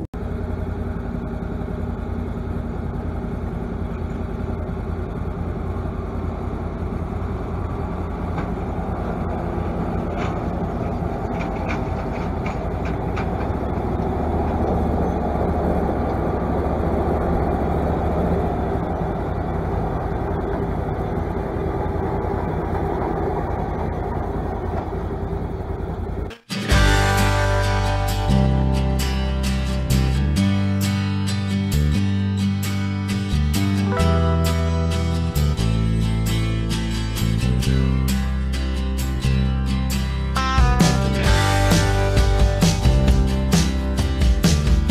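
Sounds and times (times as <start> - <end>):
tractor and forage harvester running: 0.0 - 44.9.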